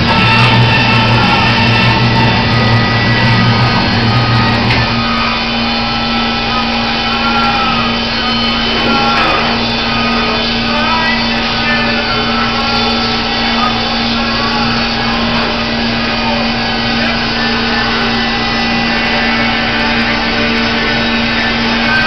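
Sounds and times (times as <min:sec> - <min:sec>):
band sawmill hum and whine: 0:00.0 - 0:22.0.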